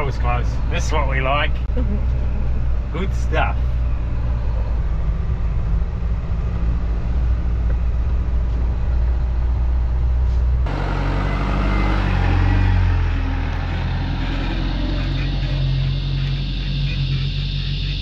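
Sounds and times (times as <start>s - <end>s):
diesel truck engine drone: 0.0s - 18.0s.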